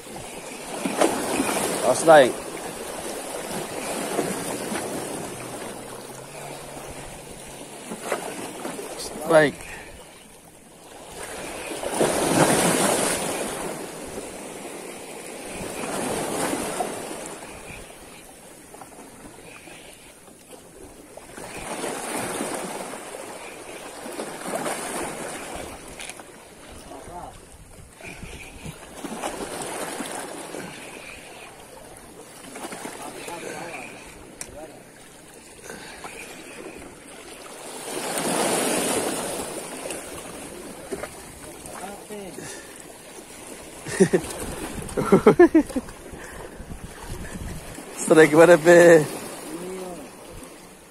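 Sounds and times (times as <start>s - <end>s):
waves washing on shore: 0.0s - 50.9s.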